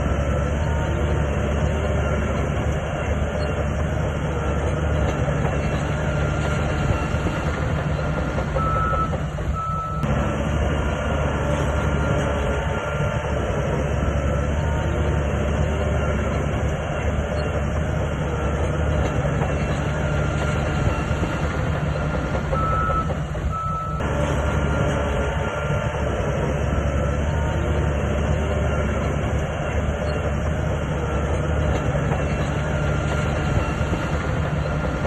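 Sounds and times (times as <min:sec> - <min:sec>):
bulldozer diesel engine running: 0:00.0 - 0:35.0
steel tracks clanking: 0:00.0 - 0:35.0.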